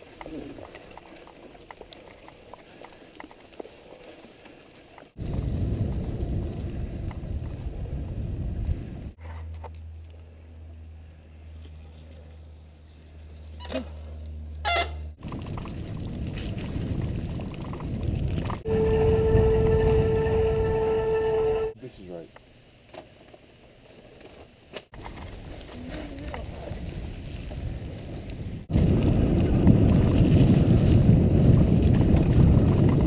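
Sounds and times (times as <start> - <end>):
wind and tyres rumbling: 0.0 - 21.8, 24.0 - 33.0.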